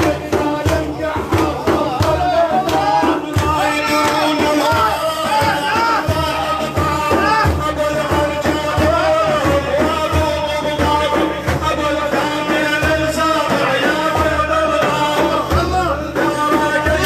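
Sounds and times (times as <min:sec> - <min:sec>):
low hand-drum beats: 0:00.0 - 0:17.0
person singing devotional song: 0:00.0 - 0:17.0.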